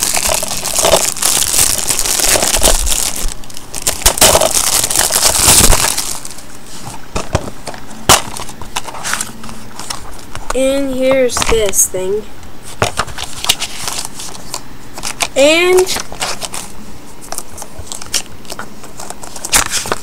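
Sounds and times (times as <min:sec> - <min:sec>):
plastic wrap crinkling: 0:00.0 - 0:10.6, 0:12.7 - 0:20.0.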